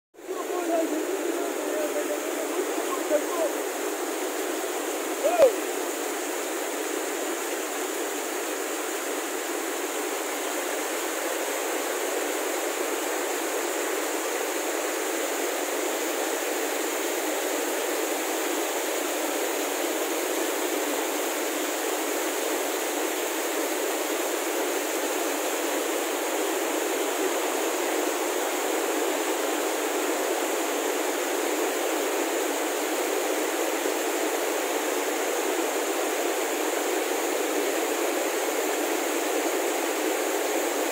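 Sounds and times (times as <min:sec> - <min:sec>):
stream rushing over boulders: 0:00.2 - 0:40.9.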